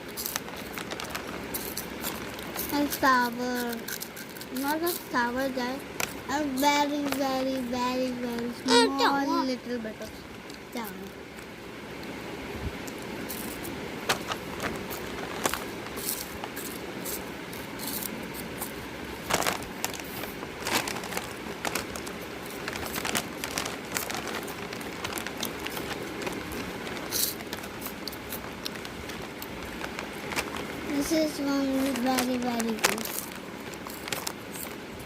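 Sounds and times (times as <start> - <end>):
crisps being crunched: 0.0 - 8.8, 12.8 - 35.0
snack packets crinkling: 0.0 - 9.2, 12.8 - 35.0.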